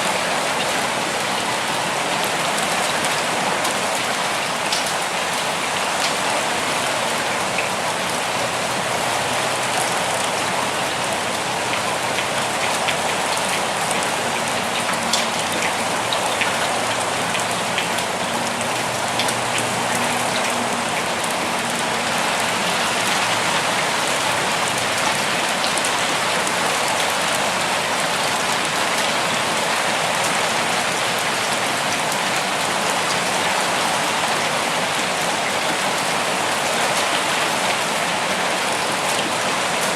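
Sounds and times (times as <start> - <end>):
steady rain: 0.0 - 39.9
raindrops ticking close by: 0.4 - 6.6, 7.3 - 39.9.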